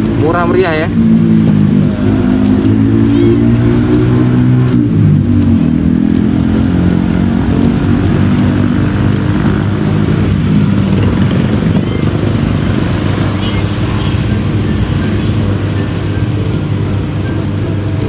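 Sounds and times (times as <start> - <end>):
motor vehicle engine running: 0.0 - 18.0.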